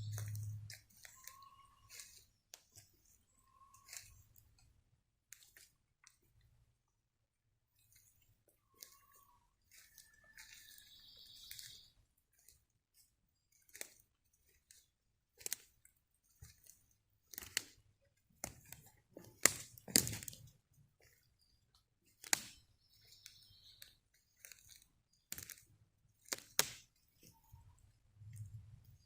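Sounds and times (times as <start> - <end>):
footsteps crunching twigs and leaves: 0.0 - 4.6, 5.4 - 6.3, 7.8 - 27.6.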